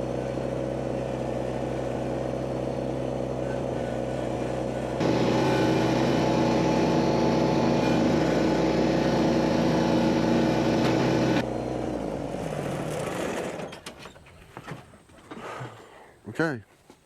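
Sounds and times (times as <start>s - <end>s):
engine running and winding down: 0.0s - 13.8s.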